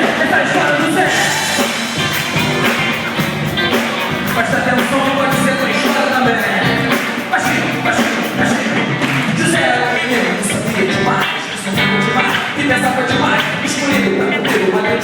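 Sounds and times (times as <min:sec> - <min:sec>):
drums: 0:00.0 - 0:15.0
person singing: 0:00.0 - 0:15.0
worship band playing: 0:00.0 - 0:15.0.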